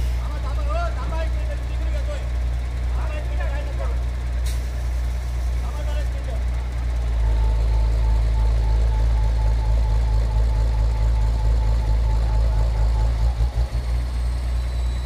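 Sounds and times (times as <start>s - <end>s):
diesel crane engines rumbling: 0.0s - 15.0s.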